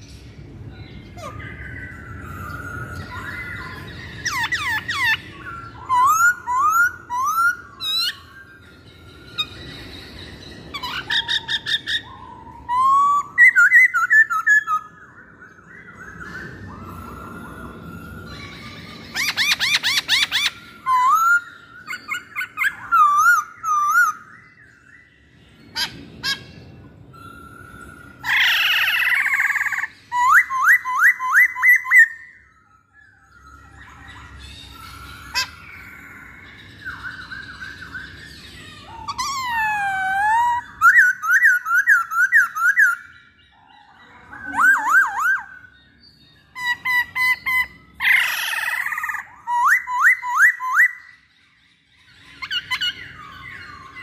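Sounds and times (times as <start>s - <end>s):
harsh noisy bird call: 0.0s - 51.3s
bird singing whistles: 0.8s - 51.3s.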